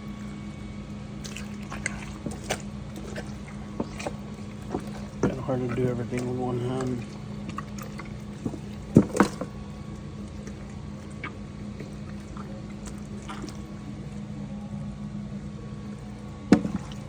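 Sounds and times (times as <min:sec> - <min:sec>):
water running: 0:00.0 - 0:14.4, 0:15.8 - 0:17.0.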